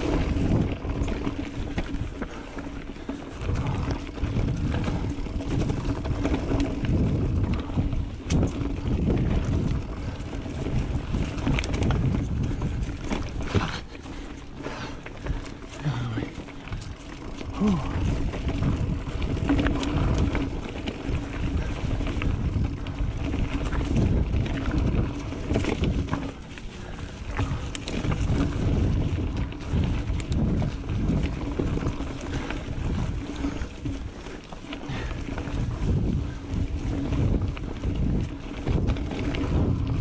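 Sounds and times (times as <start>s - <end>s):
bike rattling clicks and knocks: 0.0s - 40.0s
tyres rumbling on dirt trail: 0.0s - 40.0s
wind buffeting microphone: 0.0s - 40.0s.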